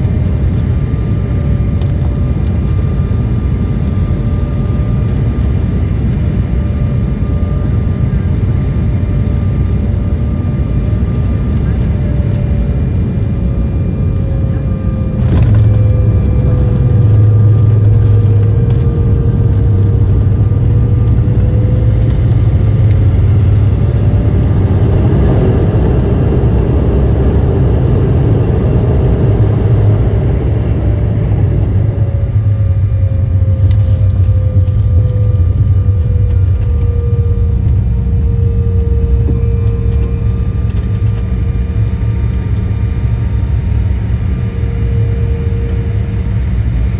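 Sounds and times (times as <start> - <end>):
jet engines in cabin: 0.0 - 46.9.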